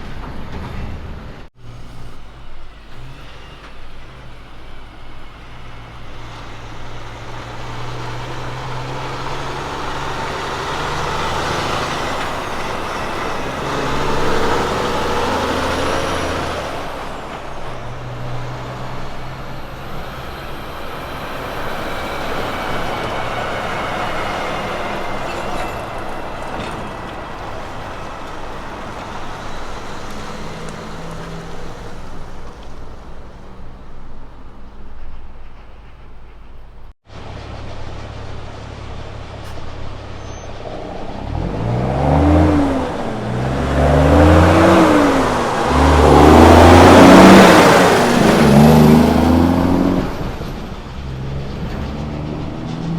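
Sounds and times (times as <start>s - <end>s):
diesel truck driving by: 0.0s - 52.9s.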